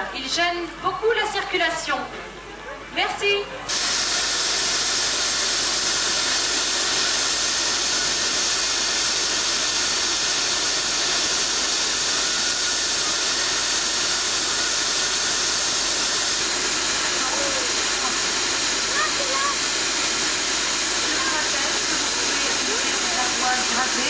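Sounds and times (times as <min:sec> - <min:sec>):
gas torch hissing: 0:03.7 - 0:24.0.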